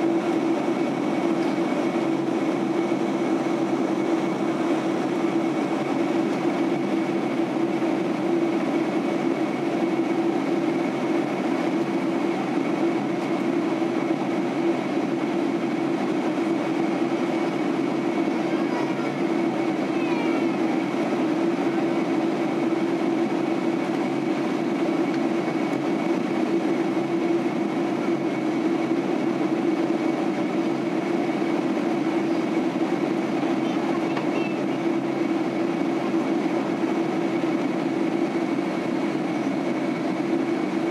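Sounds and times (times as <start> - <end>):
airliner cabin engine and airflow noise: 0.0 - 40.9.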